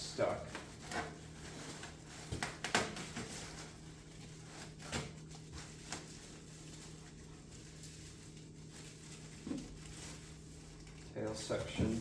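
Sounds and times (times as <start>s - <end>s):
packaging scrapes and knocks: 0.6s - 12.0s.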